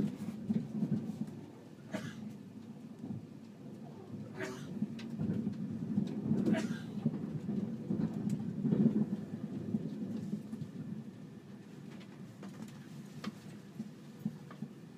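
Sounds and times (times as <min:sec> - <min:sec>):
train rumbling: 0:00.0 - 0:14.9.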